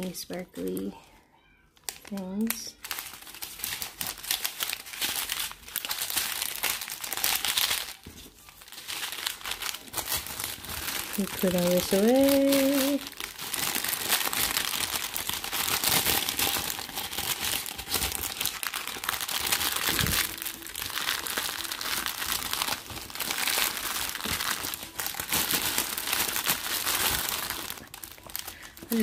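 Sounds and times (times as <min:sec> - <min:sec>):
plastic bags crinkling: 0:00.0 - 0:29.0.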